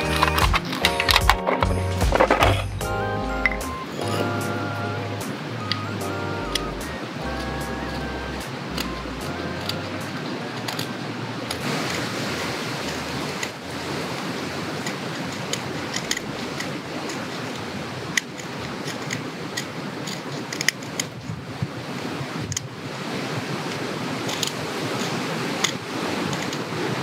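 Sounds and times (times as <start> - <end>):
steady rushing background noise: 0.0 - 27.0.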